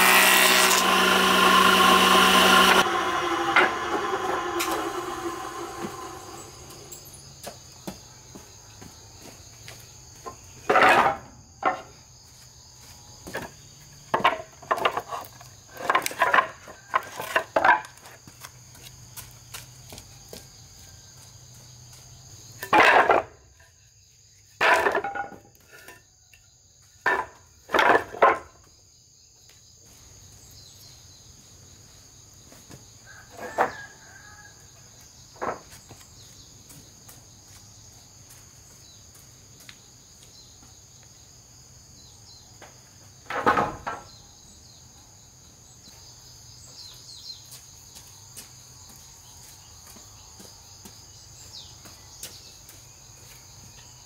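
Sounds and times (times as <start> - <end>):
crickets and insects chirping: 1.5 - 54.0.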